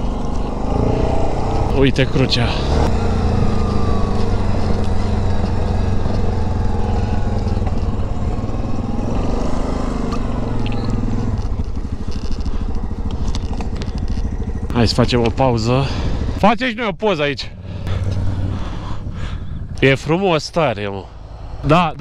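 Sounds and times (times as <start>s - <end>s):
quad engine running: 0.0s - 22.0s.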